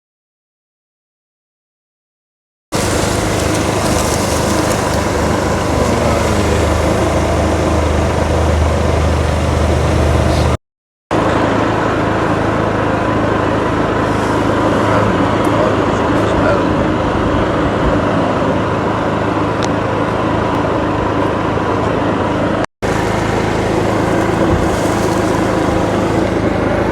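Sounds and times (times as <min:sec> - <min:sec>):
engine humming: 0:02.7 - 0:26.9
loud wide noise: 0:02.8 - 0:26.9.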